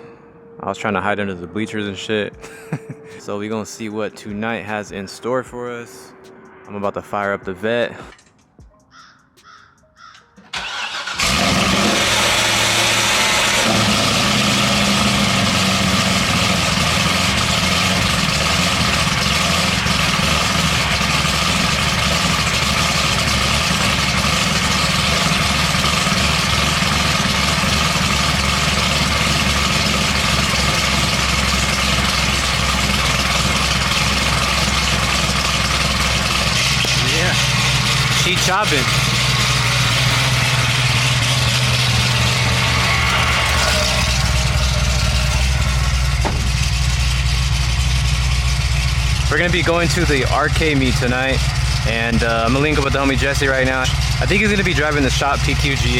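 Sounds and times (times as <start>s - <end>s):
car engine cranking: 6.2s - 55.9s
car engine choppy idle: 10.0s - 55.9s.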